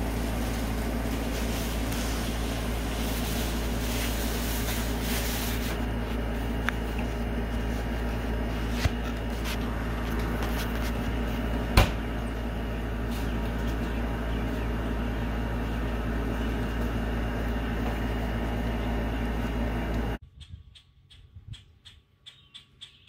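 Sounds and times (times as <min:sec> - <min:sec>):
machine hum with low rumble: 0:00.0 - 0:23.0.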